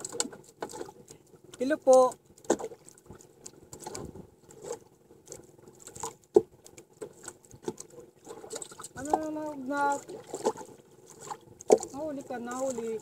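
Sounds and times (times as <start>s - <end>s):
water lapping against canoe: 0.0s - 13.0s.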